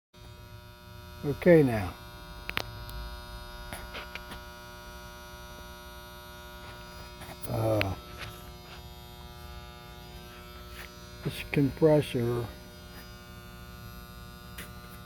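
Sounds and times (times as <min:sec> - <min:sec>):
air compressor motor humming: 0:00.2 - 0:15.0.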